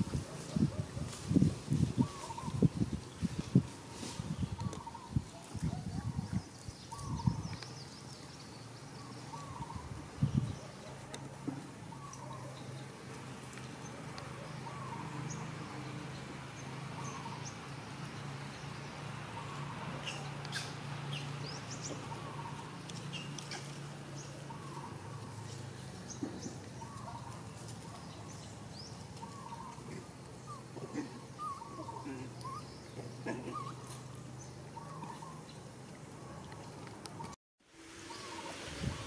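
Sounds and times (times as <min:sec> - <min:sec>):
birds chirping: 0:02.0 - 0:03.4, 0:04.3 - 0:37.4.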